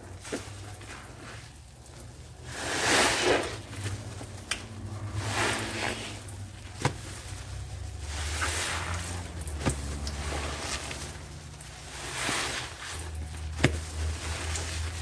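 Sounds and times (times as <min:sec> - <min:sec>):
wet sponge squeezed: 0:00.2 - 0:15.0.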